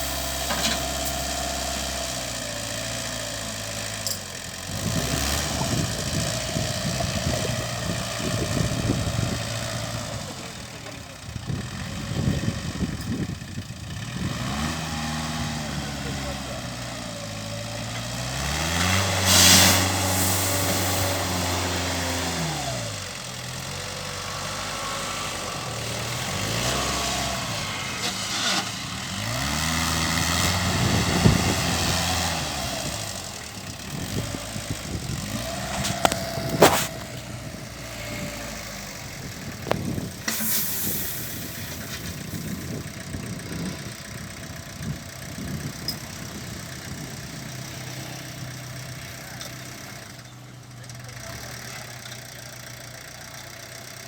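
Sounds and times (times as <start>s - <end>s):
loader engine revving: 0.0s - 54.0s.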